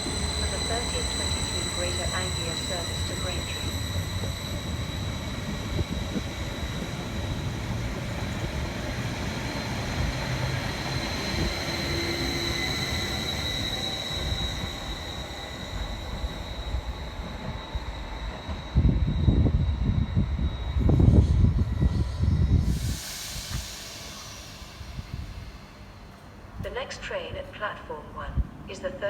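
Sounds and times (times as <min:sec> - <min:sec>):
train running with high whine: 0:00.0 - 0:29.0.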